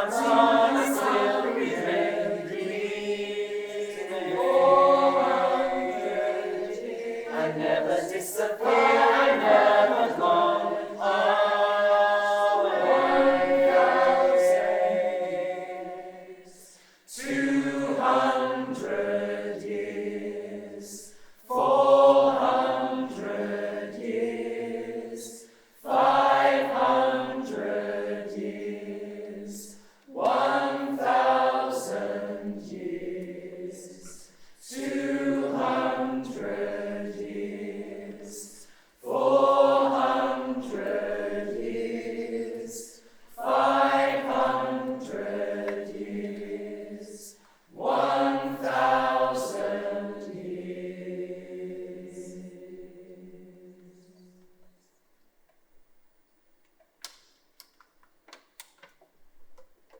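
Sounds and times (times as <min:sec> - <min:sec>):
choir singing held chords: 0:00.0 - 0:54.8.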